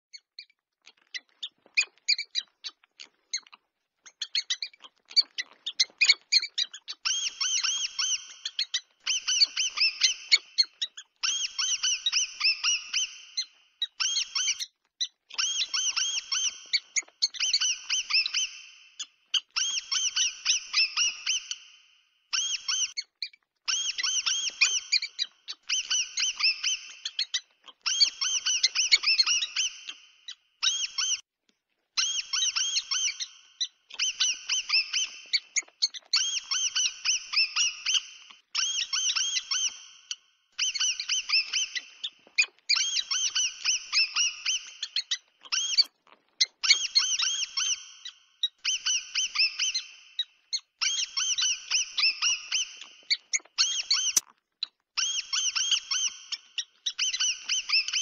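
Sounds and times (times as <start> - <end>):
mouse squeaks: 0.1 - 31.3, 31.9 - 58.0.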